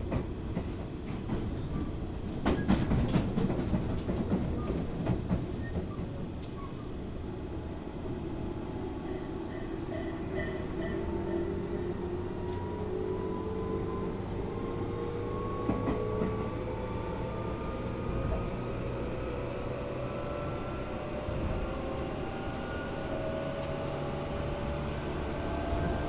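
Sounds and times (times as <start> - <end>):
electric train motor whine: 2.4 - 26.0.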